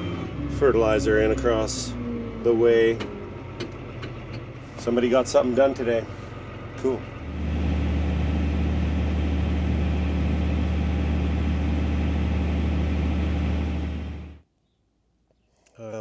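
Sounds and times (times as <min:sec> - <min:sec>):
tractor diesel engine running: 0:00.0 - 0:14.4.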